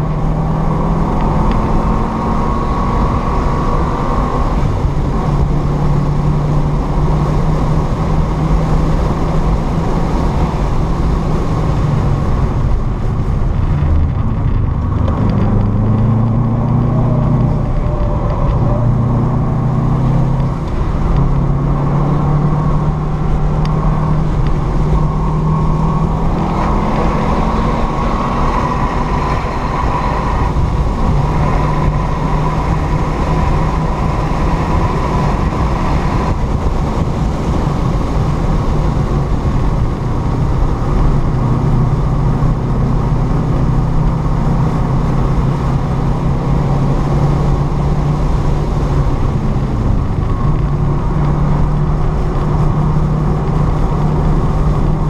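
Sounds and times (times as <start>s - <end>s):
car engine revving: 0.0s - 55.0s
wind noise: 0.0s - 55.0s.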